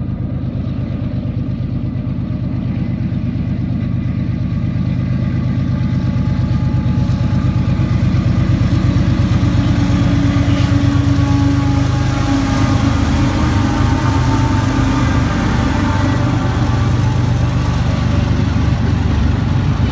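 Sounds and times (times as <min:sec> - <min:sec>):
diesel locomotive engine rumble: 0:00.0 - 0:19.9.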